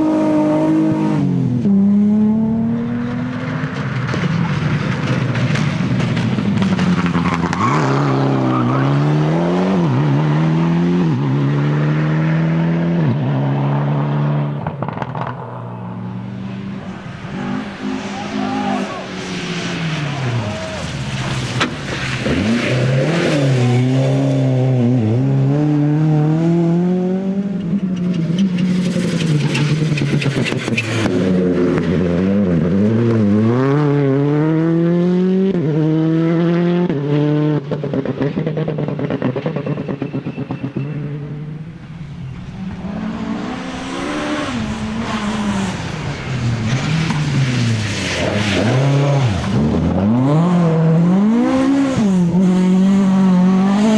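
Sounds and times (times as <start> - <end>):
rally car engines revving hard: 0.0 - 53.9.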